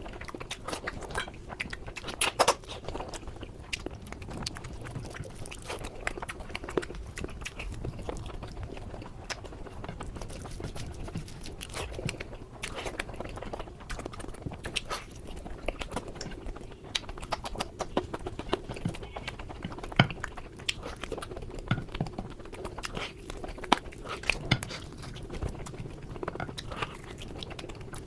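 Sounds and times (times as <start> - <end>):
person chewing: 0.0 - 28.0.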